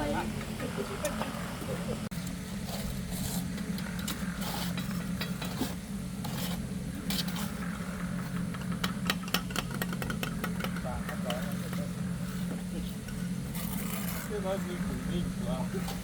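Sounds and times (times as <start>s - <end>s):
scraping and clicking work noises: 0.4s - 16.0s.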